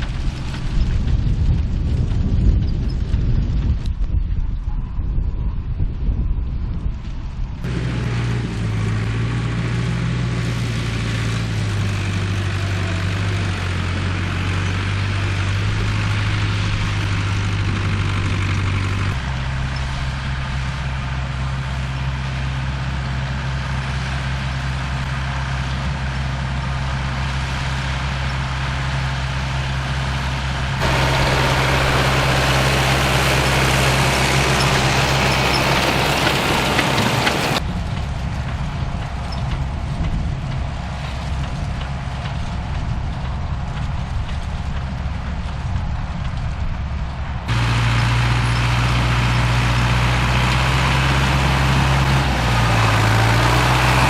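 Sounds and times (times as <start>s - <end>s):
diesel tractor engines running: 0.0s - 4.1s, 7.0s - 54.0s.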